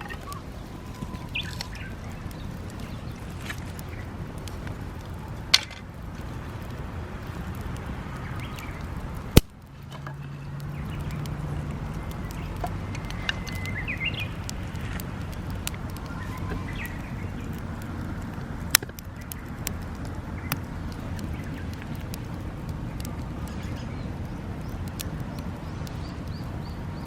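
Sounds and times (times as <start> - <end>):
birds chirping: 0.0 - 7.0, 7.7 - 27.0
firewood crackling and popping: 0.0 - 27.0.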